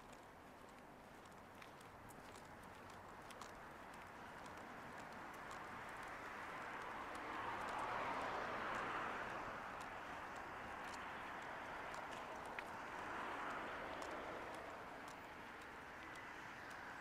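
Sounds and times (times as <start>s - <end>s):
faint footsteps on pavement: 0.0s - 17.0s
car passing: 2.1s - 17.0s.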